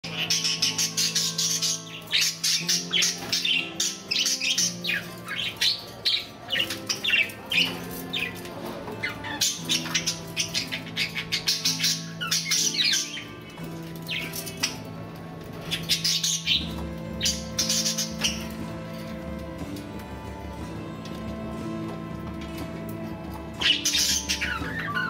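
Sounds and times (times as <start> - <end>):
budgerigars chirping and squawking: 0.0 - 25.0
soft background music: 0.0 - 25.0.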